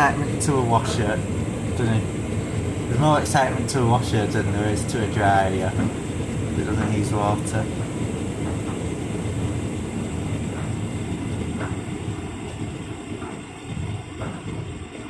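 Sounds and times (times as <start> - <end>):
tumble dryer rumbling: 0.0 - 15.0.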